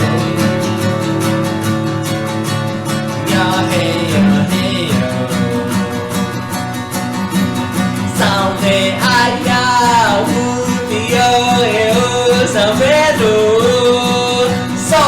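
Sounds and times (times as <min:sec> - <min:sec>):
person singing: 0:00.0 - 0:15.0
strummed acoustic guitar: 0:00.0 - 0:15.0.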